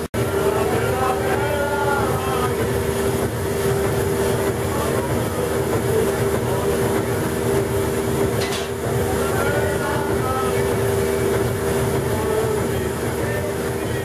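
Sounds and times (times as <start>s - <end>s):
steam machinery rumbling: 0.0s - 14.0s.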